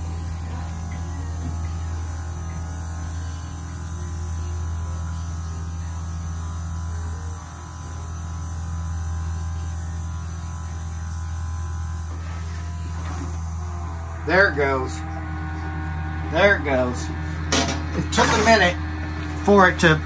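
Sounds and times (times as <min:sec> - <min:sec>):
electric pump humming: 0:00.0 - 0:20.0.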